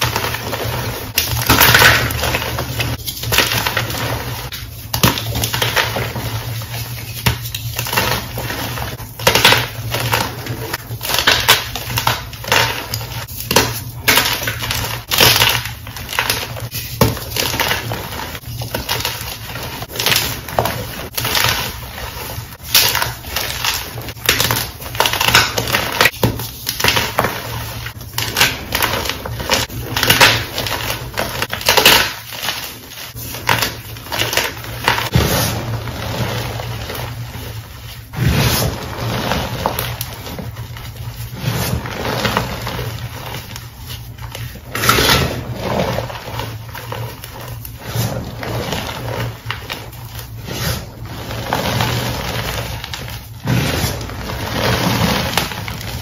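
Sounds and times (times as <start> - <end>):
chalk crunching and crumbling: 0.0 - 56.0.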